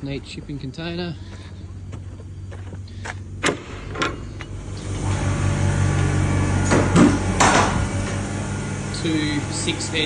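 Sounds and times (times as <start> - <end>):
electrical hum of machines: 0.0 - 10.0.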